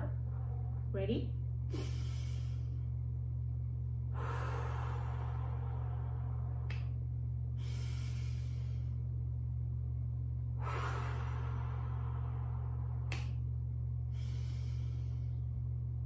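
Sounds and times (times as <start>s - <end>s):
steady low hum: 0.0s - 16.0s
woman breathing deeply: 1.6s - 3.2s, 3.9s - 16.0s.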